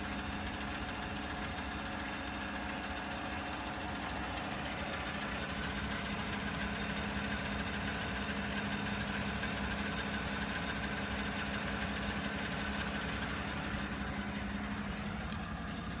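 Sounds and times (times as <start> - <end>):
engine ticking: 0.0 - 16.0
truck engine idling: 0.0 - 16.0.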